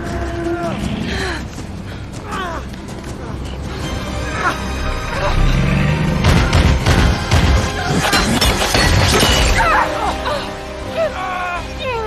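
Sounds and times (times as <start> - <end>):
dramatic music score: 0.0 - 12.0.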